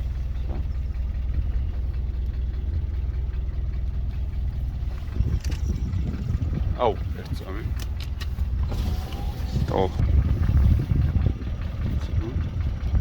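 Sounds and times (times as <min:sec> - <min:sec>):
car engine low drone: 0:00.0 - 0:13.0.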